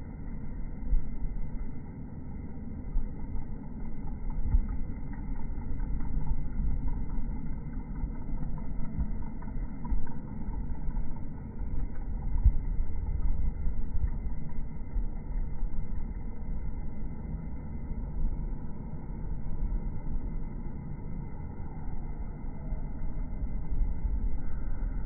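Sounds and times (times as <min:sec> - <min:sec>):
low uneven rumbling: 0:00.0 - 0:25.0.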